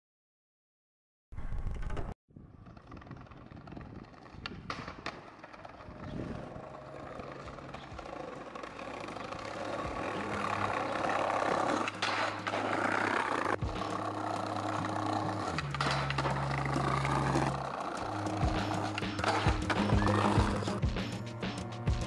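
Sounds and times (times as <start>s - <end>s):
skateboard rolling on paving: 1.6s - 22.0s
skateboard clacks: 2.6s - 22.0s.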